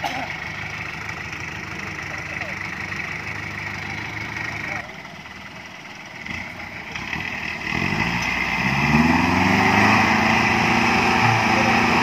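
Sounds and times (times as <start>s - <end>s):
jeep engine driving through mud: 0.0s - 12.0s.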